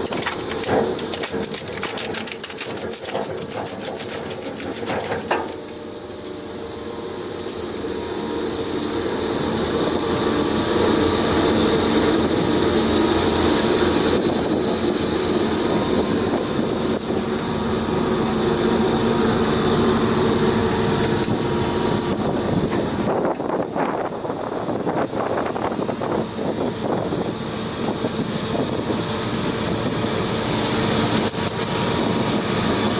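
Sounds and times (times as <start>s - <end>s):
wood chipper running: 0.0s - 32.9s.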